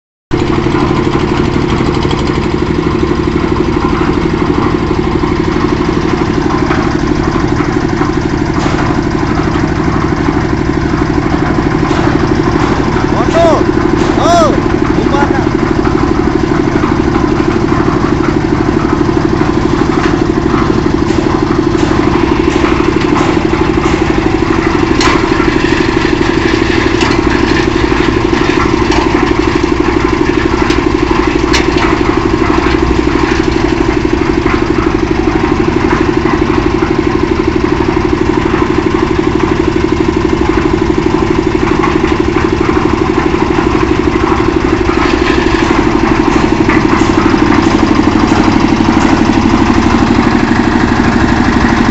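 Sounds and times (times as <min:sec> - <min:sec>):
concrete mixer running: 0:00.3 - 0:51.9.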